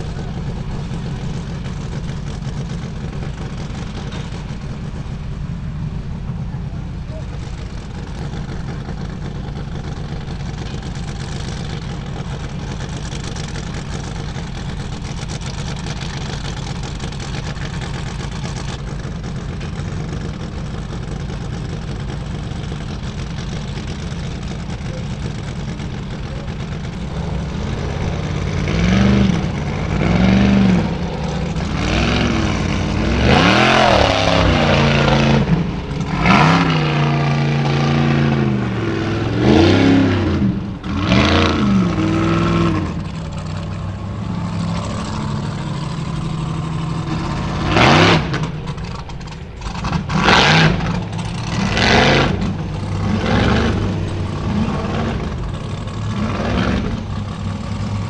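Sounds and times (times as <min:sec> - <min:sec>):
low engine rumble: 0:00.0 - 0:58.0
buggy engine revving hard: 0:07.3 - 0:58.0.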